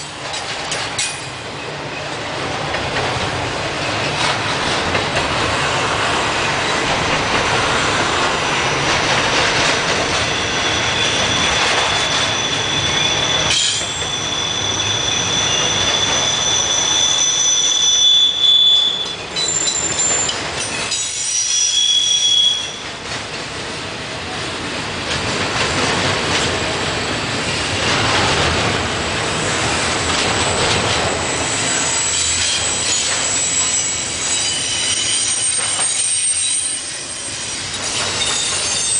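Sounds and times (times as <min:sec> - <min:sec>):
train wheels squealing on rails: 0:00.0 - 0:23.3, 0:26.3 - 0:38.9
freight train rolling past: 0:00.0 - 0:38.9.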